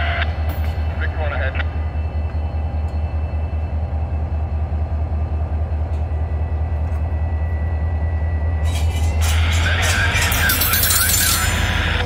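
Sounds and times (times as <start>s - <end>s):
diesel locomotive rumbling past: 0.0s - 12.0s.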